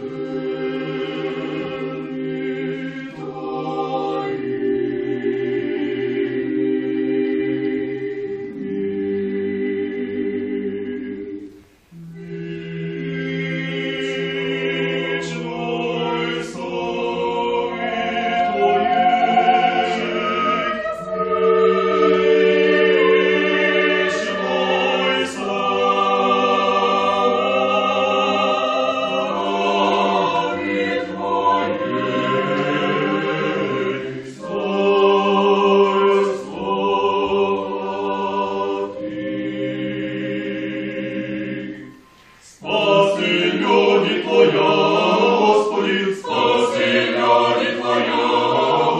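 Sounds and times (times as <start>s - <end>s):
mixed choir singing a cappella: 0.0s - 48.9s.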